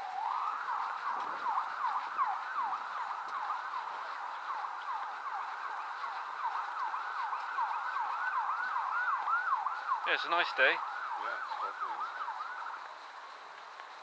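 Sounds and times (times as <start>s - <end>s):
emergency siren yelping: 0.0s - 13.1s.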